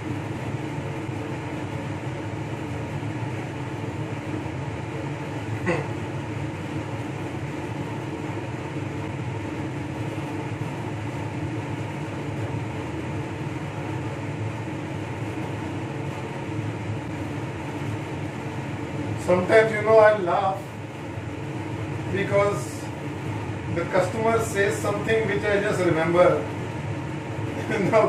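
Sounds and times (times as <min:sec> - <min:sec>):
fan whirring: 0:00.0 - 0:28.0
low hum: 0:00.0 - 0:28.0.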